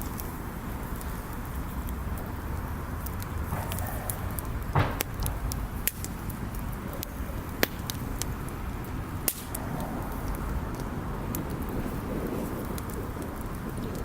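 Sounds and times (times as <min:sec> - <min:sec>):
bonfire crackling and popping: 0:00.0 - 0:14.0
low rush of fire: 0:00.0 - 0:14.0.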